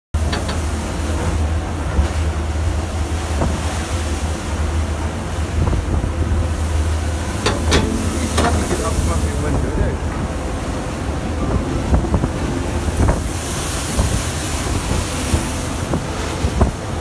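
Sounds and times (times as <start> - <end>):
deep steady rumble: 0.2 - 17.0
waves rushing along hull: 0.2 - 17.0
wind buffeting microphone: 0.6 - 17.0.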